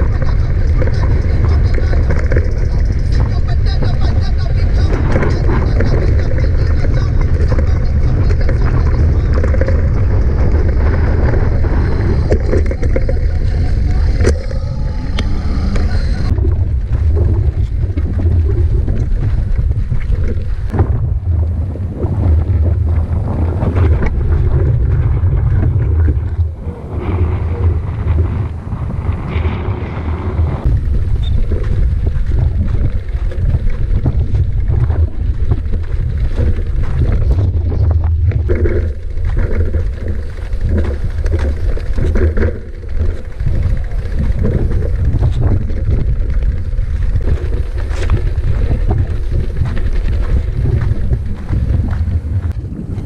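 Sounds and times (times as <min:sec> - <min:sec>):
bike knocking and rattling: 0:00.0 - 0:21.0, 0:30.6 - 0:53.0
wind buffeting microphone: 0:00.0 - 0:53.0.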